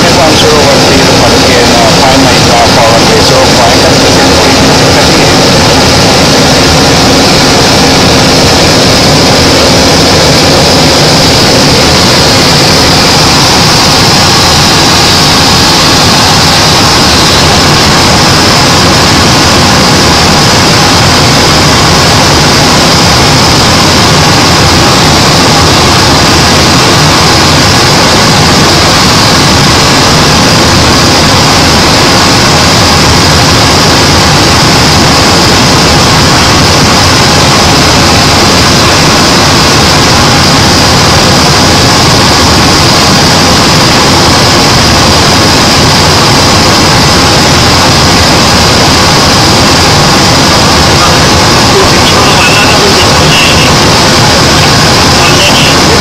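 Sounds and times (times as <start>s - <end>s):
propeller aircraft engine running: 0.0s - 56.0s
steady high-pitched tone: 0.0s - 56.0s.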